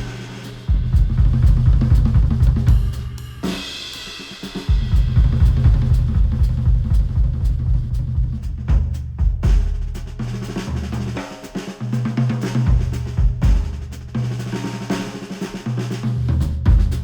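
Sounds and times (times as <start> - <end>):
music with busy drum kit: 0.0 - 17.0.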